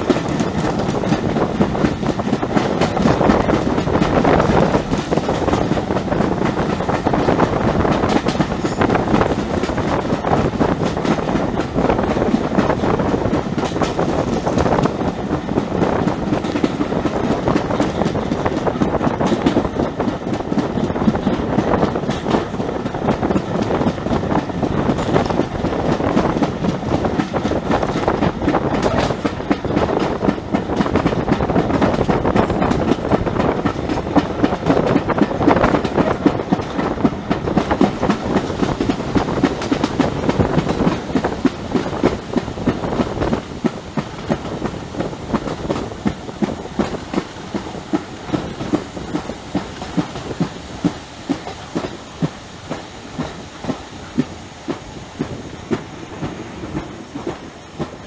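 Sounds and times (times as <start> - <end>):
train rumbling at speed: 0.0 - 58.0.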